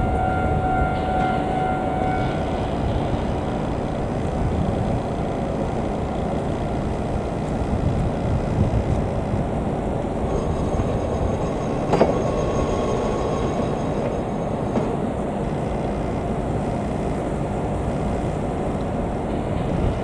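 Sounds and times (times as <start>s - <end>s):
electric train rumbling on rails: 0.0s - 20.0s.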